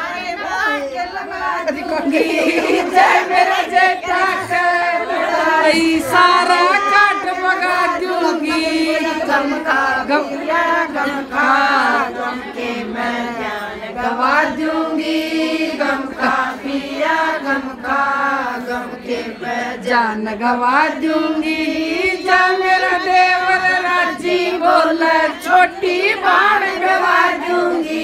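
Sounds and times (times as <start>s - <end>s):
group of women singing: 0.0s - 28.0s.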